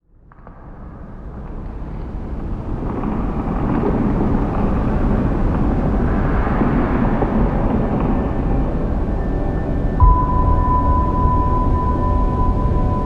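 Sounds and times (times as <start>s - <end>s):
dark ambient music drone: 0.3s - 13.0s.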